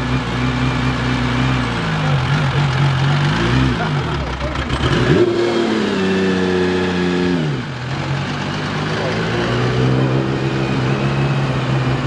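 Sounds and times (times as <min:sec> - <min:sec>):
car engine pulling away: 0:00.8 - 0:12.0.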